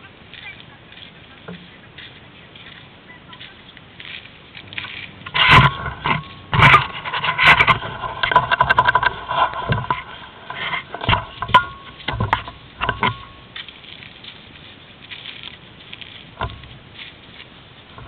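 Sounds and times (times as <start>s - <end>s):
clicks and scuffles on snow: 0.0s - 18.0s.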